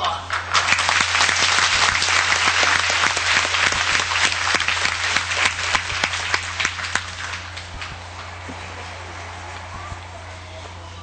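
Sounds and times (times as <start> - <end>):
audience applauding: 0.2 - 11.0.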